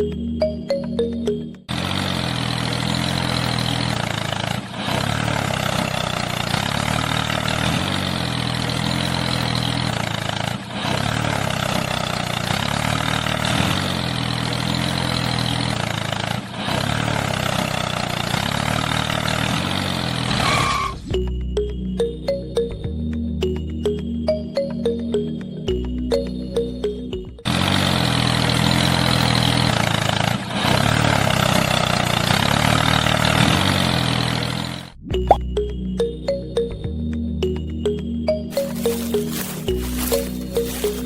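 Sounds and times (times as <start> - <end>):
engine running: 0.0 - 20.4, 21.1 - 41.0.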